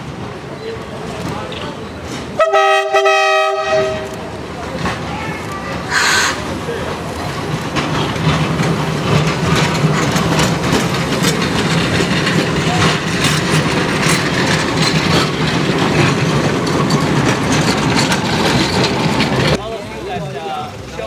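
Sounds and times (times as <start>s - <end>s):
steel wheels clattering over rail: 0.0s - 21.0s.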